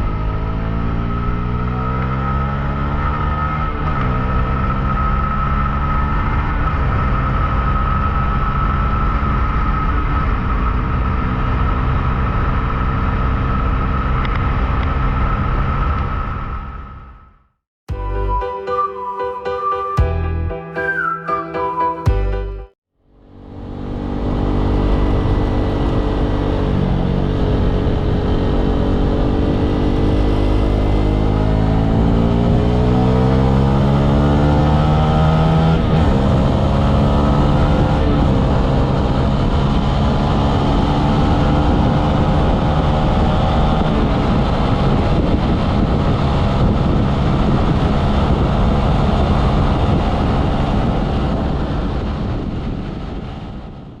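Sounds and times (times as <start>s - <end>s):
vehicle engine accelerating: 0.0s - 17.5s, 23.0s - 54.0s
road and wind noise: 0.0s - 17.6s, 23.0s - 54.0s.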